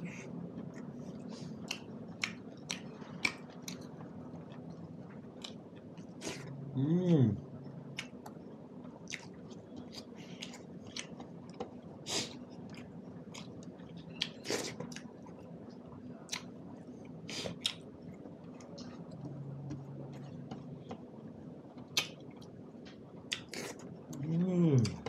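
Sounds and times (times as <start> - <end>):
man chewing food: 0.0 - 25.0.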